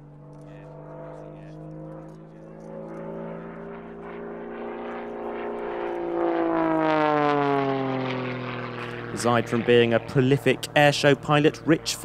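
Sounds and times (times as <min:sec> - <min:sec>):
propeller plane engine passing: 0:00.0 - 0:12.0.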